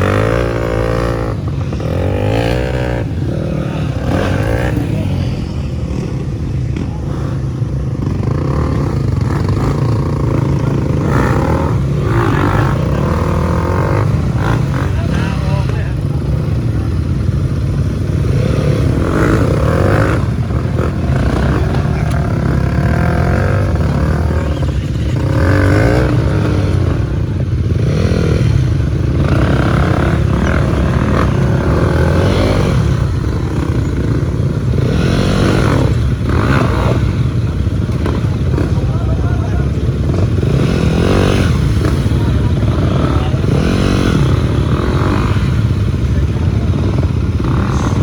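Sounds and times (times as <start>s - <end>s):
motorcycle engine rumbling: 0.0s - 48.0s.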